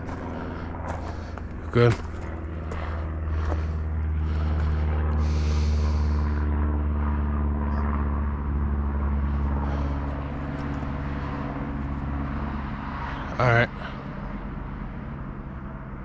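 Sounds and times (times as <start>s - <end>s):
large engine humming: 0.0s - 16.0s.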